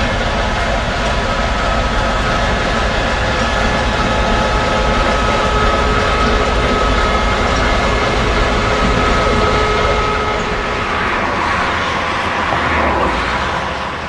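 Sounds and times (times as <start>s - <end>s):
steam train rumble and hiss: 0.0s - 14.0s.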